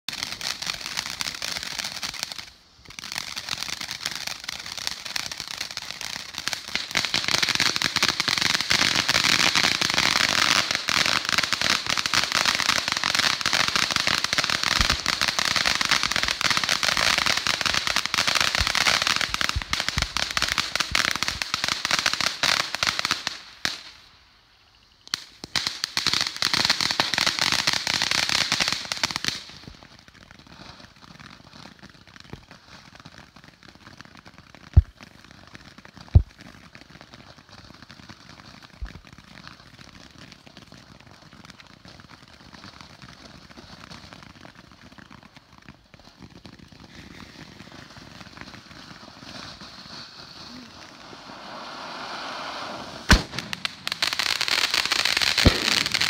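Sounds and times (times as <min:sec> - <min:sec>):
firework fountains hissing and crackling: 0:00.1 - 0:56.0.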